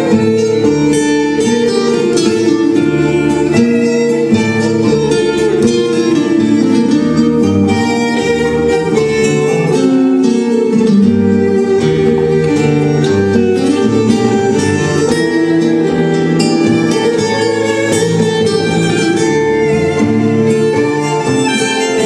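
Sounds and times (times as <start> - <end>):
bowed violins: 0.0 - 22.0
plucked string notes: 0.0 - 22.0.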